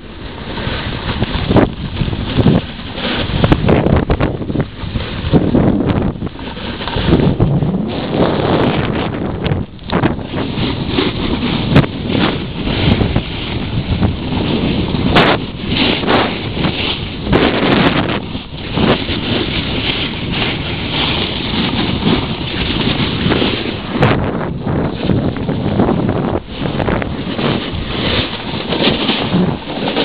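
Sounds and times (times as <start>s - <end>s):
skis sliding over snow: 0.0s - 30.0s
wind buffeting microphone: 0.0s - 30.0s.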